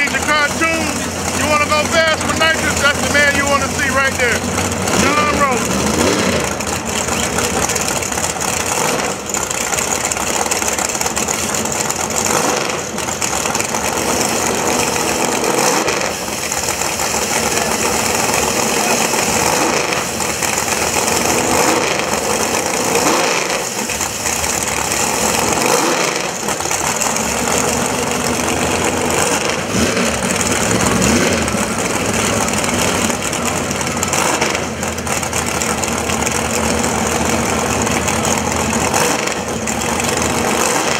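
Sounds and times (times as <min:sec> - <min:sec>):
race car engines running loudly: 0:00.0 - 0:40.9.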